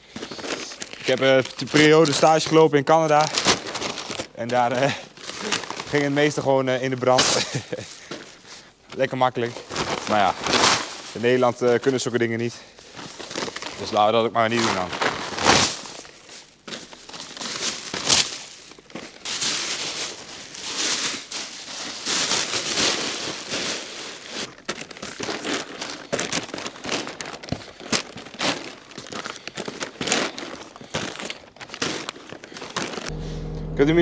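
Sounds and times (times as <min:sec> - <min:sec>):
paper and plastic bags crumpling: 0:00.0 - 0:33.4.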